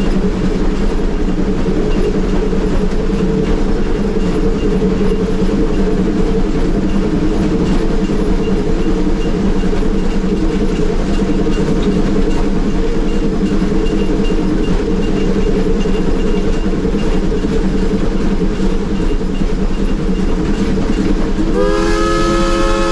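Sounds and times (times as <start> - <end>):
steam locomotive running: 0.0 - 22.9.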